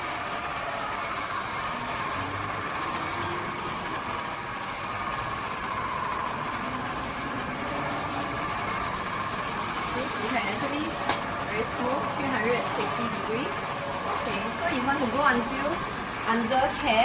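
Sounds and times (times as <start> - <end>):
battery sweeper motor whine: 0.0 - 17.0.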